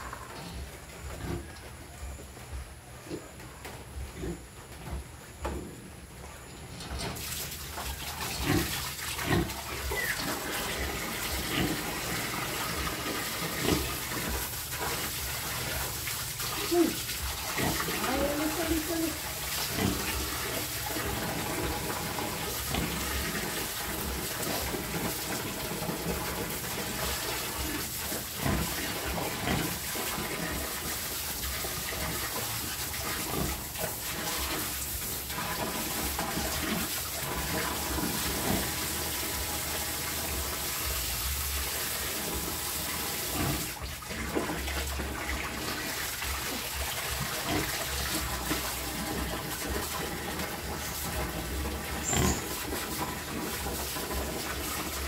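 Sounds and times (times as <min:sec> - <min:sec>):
water gushing: 0:06.4 - 0:55.0.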